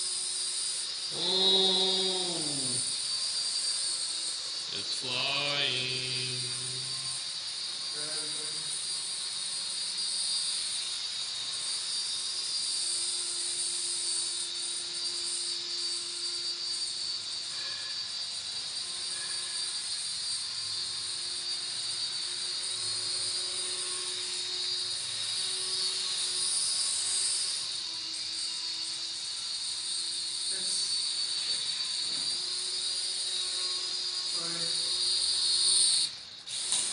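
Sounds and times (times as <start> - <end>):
toy helicopter rotors whirring: 0.0 - 36.9.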